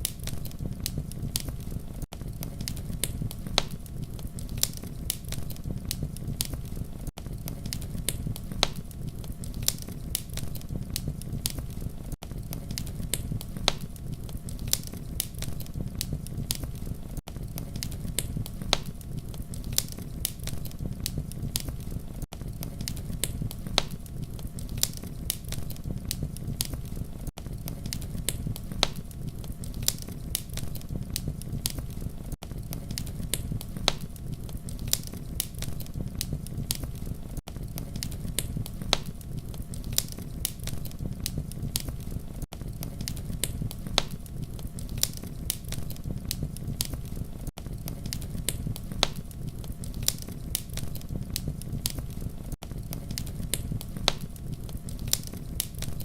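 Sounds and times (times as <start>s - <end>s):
campfire crackling and popping: 0.0s - 56.0s
low rumble of flame: 0.0s - 56.0s.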